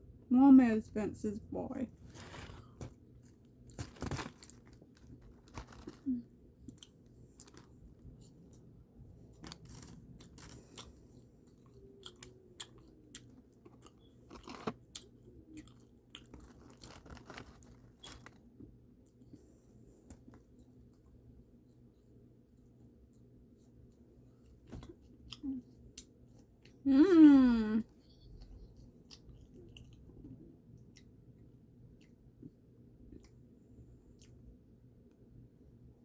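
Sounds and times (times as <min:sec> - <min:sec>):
chewing crispy food: 0:01.9 - 0:26.9, 0:27.8 - 0:35.1.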